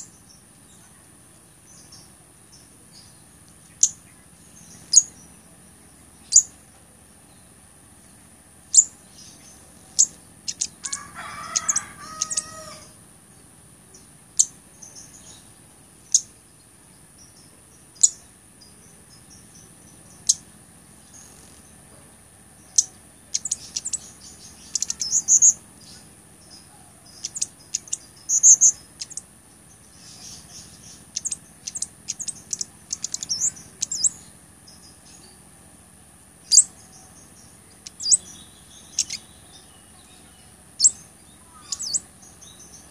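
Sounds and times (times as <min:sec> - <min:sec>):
bird rapid twittering: 0:00.0 - 0:06.6, 0:08.1 - 0:12.9, 0:13.9 - 0:21.8, 0:22.6 - 0:35.4, 0:36.4 - 0:42.9.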